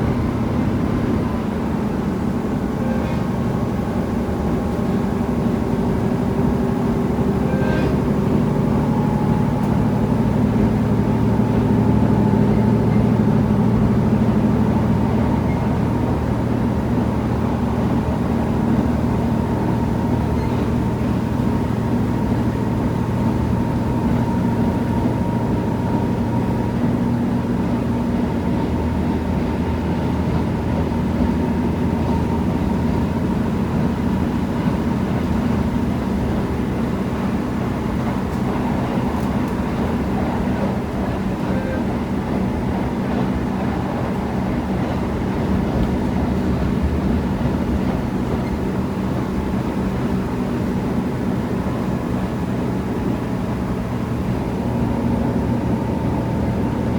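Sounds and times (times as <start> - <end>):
diesel engine drone: 0.0 - 56.9
wheel and rail noise: 0.0 - 56.9.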